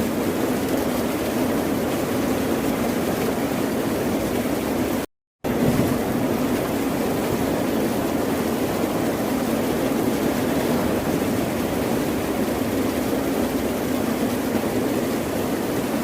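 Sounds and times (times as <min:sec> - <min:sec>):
ocean surf roaring: 0:00.0 - 0:16.0.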